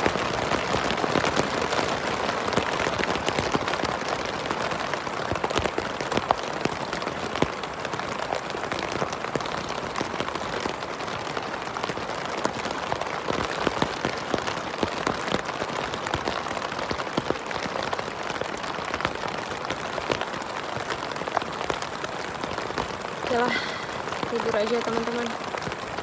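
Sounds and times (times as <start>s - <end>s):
raindrops striking a surface: 0.0s - 26.0s
steady rain hiss: 0.0s - 26.0s.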